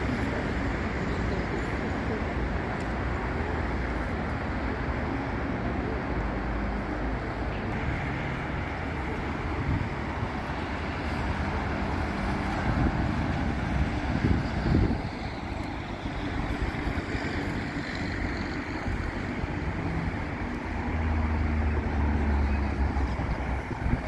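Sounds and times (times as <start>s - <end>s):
road traffic roar: 0.0s - 24.0s.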